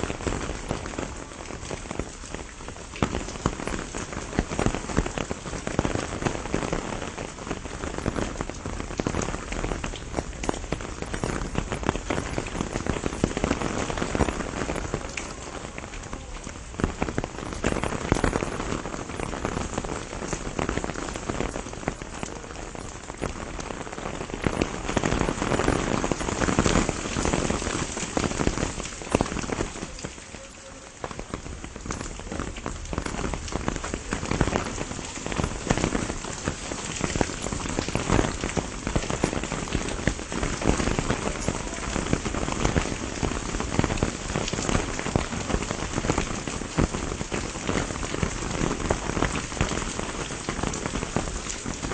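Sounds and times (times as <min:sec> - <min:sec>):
rain falling on leaves: 0:00.0 - 0:51.9.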